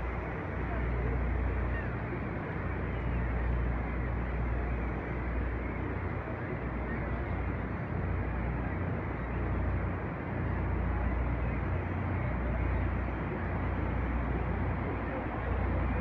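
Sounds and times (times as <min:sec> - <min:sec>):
boat engine: 0:00.0 - 0:16.0.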